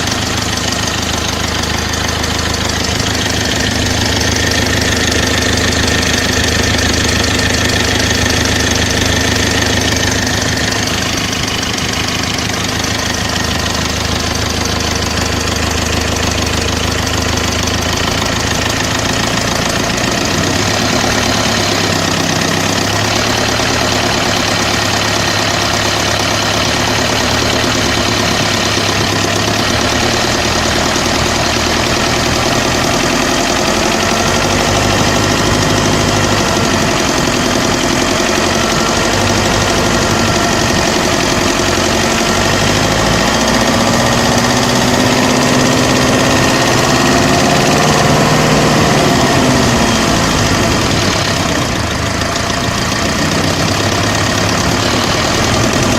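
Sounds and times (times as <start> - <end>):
diesel engine knocking: 0.0 - 55.9.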